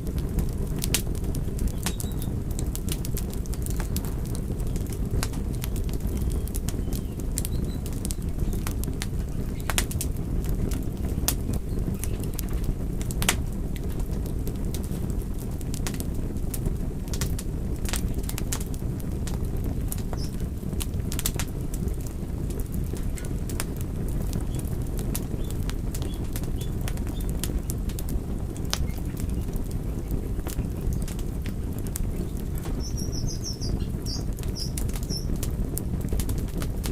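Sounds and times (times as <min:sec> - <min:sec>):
fire pops and snaps: 0:00.0 - 0:36.9
wood fire crackling: 0:00.0 - 0:36.9.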